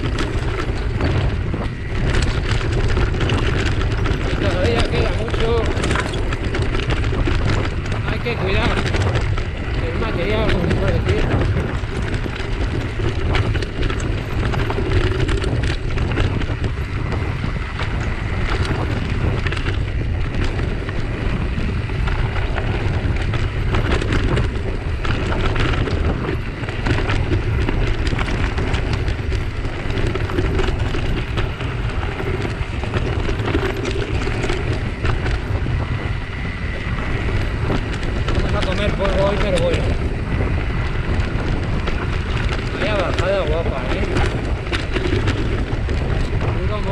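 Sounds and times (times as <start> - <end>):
bike rattling over rocks: 0.0 - 46.9
tyres crunching over gravel: 0.0 - 46.9
wind rumble on microphone: 0.0 - 46.9.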